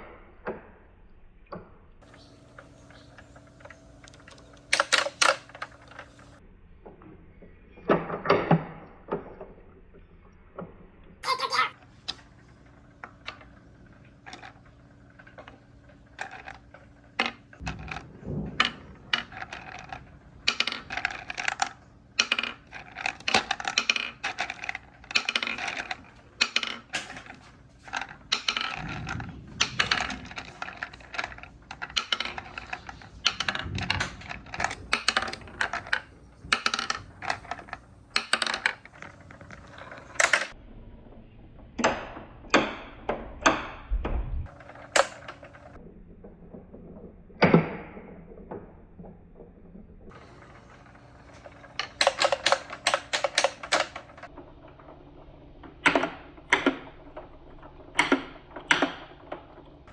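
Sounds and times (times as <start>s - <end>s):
marbles clacking on wooden track: 2.0s - 6.4s, 11.4s - 40.6s, 44.4s - 59.9s
marbles rolling rumble: 2.0s - 6.4s, 11.8s - 59.9s.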